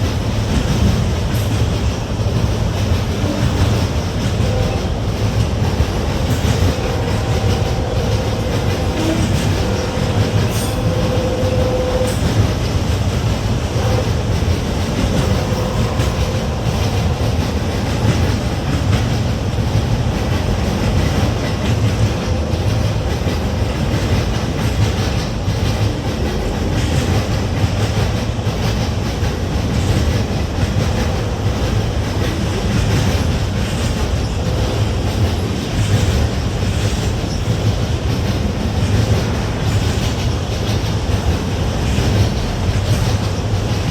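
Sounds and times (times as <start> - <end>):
freight train rumbling past: 0.0 - 43.9
wheels clacking over rail joints: 0.0 - 43.9.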